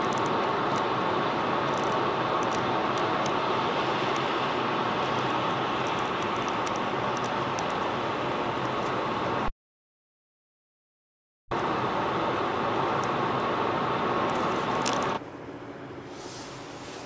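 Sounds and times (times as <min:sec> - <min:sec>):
vehicle road noise hiss: 0:00.0 - 0:09.5, 0:11.6 - 0:17.0.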